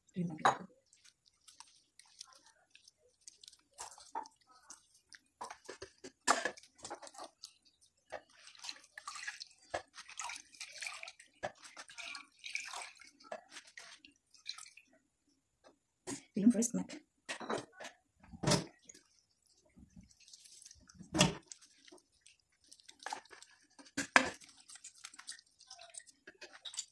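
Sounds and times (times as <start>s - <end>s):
wet pulp squelching: 0.0s - 15.0s, 18.7s - 26.9s.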